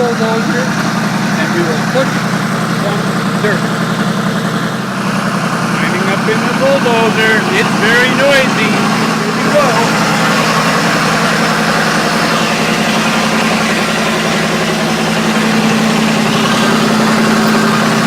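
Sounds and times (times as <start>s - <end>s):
bulldozer engine running: 0.0s - 18.0s.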